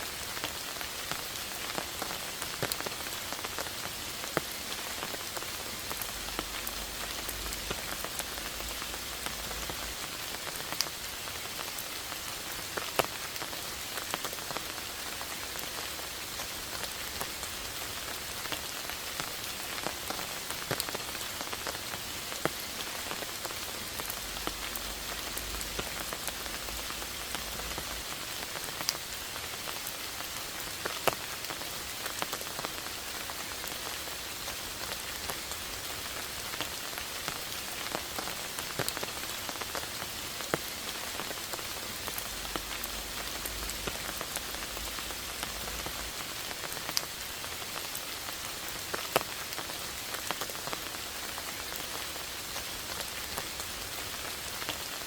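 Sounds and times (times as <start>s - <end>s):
raindrops striking close by: 0.0s - 55.0s
steady rain falling: 0.0s - 55.0s.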